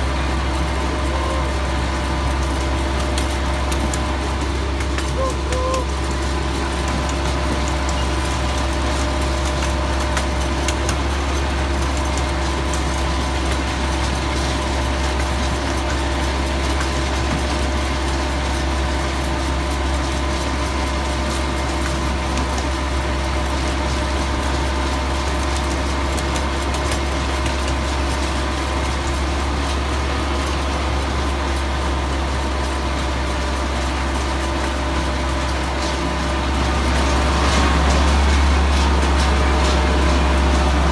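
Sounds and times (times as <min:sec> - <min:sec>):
miniature train engine running: 0:00.0 - 0:40.9.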